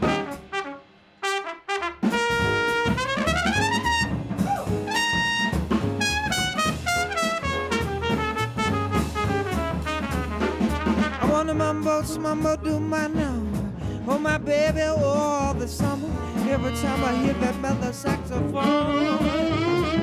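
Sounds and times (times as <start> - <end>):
trumpet playing jazz solo: 0.0 - 13.6, 14.9 - 20.0
drums: 0.0 - 20.0
upright bass: 2.4 - 20.0.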